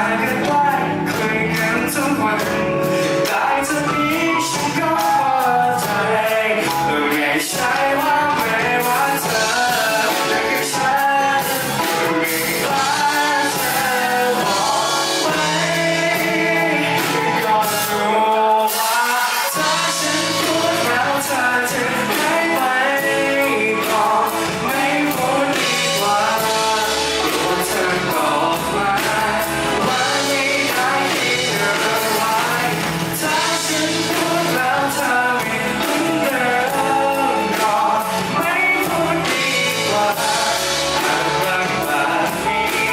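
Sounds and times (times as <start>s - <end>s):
live band playing: 0.0s - 42.9s
person singing: 0.0s - 42.9s.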